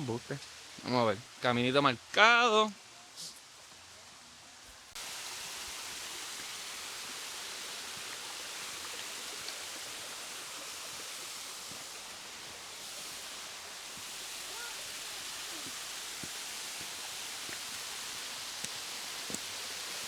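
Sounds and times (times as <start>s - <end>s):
rushing stream water: 0.0s - 20.0s.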